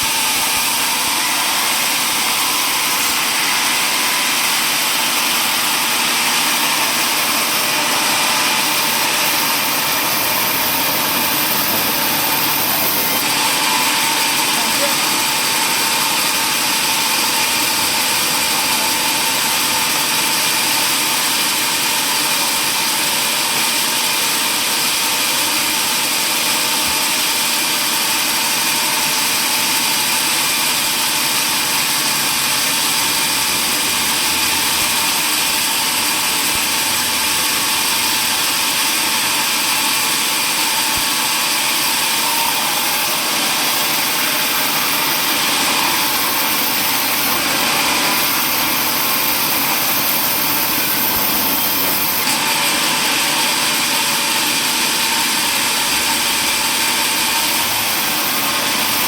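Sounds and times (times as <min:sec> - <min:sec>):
woodworking machinery whirring: 0:00.0 - 0:59.0.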